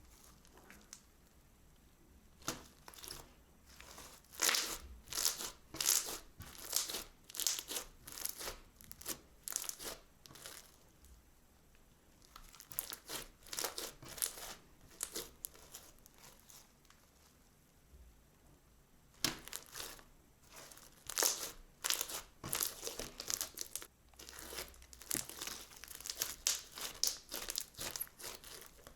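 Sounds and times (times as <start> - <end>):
crunchy slime crackling: 2.4 - 10.8, 12.2 - 17.3, 19.1 - 28.9.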